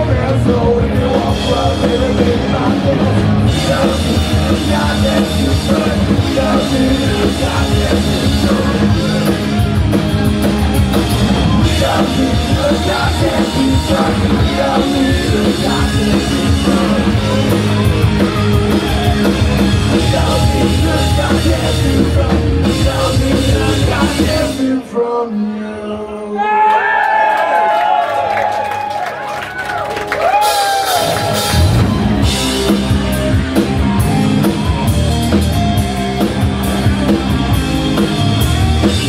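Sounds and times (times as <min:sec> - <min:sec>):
punk rock band playing live: 0:00.0 - 0:25.0, 0:30.0 - 0:39.0.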